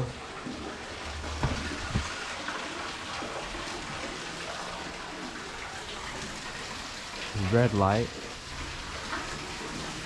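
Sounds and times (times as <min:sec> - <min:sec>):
water trickling in a tunnel: 0:00.0 - 0:10.0.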